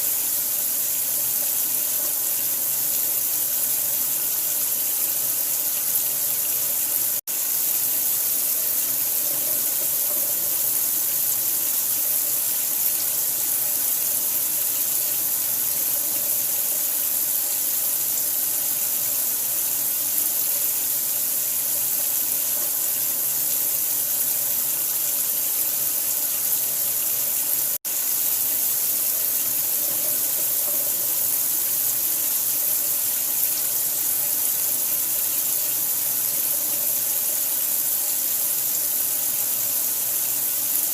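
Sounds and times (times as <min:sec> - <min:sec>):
water running from a tap: 0:00.0 - 0:40.9.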